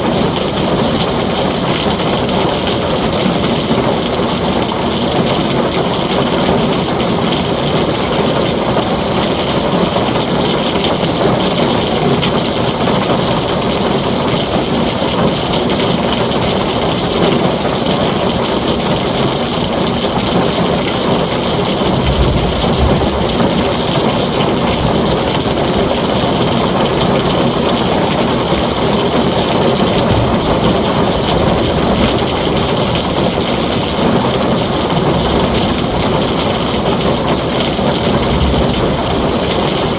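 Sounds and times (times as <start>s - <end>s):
heavy rain on a tin roof: 0.0s - 39.9s
low rumble of thunder: 0.0s - 39.9s.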